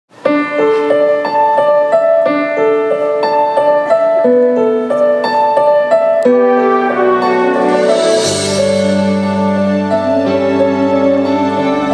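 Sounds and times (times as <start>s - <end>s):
piano broken chords: 0.1s - 11.9s.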